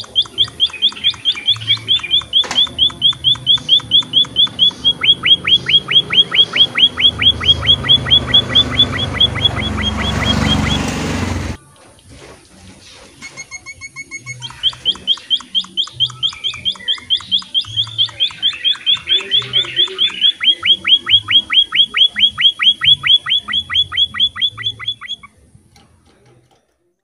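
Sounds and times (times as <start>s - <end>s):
bird trilling fast notes: 0.0s - 11.5s, 13.2s - 25.4s
bird chirping: 0.0s - 11.6s, 12.8s - 25.8s.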